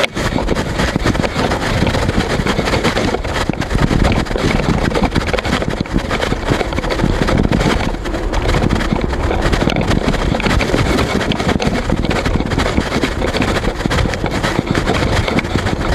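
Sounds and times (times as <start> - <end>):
camera rubbing and knocking: 0.0 - 15.9
rumbling and crackling noise: 0.0 - 15.9.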